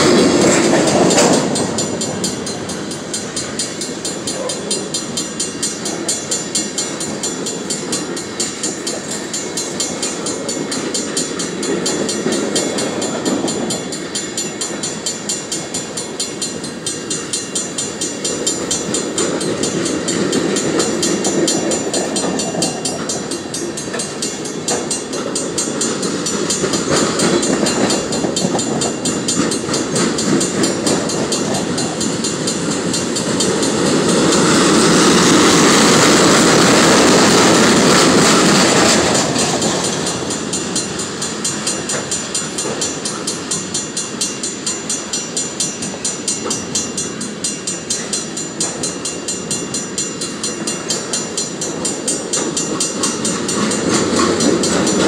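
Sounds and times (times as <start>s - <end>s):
train rumble and hiss: 0.0s - 55.0s
train wheels clicking over rail joints: 0.0s - 55.0s.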